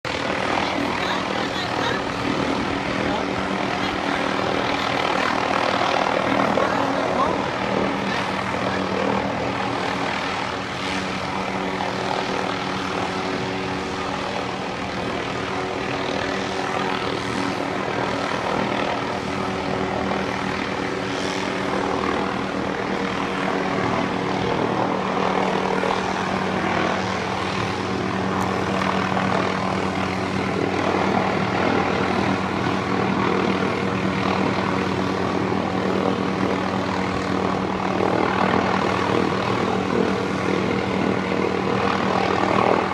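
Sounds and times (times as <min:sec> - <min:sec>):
helicopter hovering: 0:00.0 - 0:42.9.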